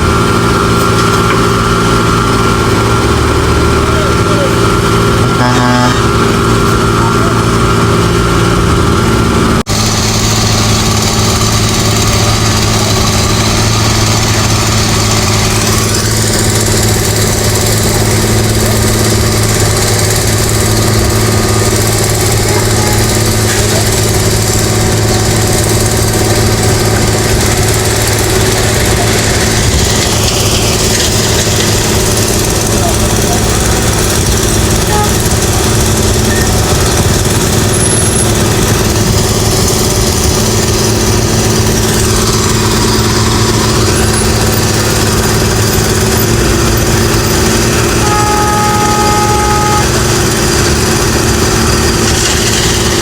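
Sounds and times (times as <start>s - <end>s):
construction machinery engine running: 0.0s - 53.0s.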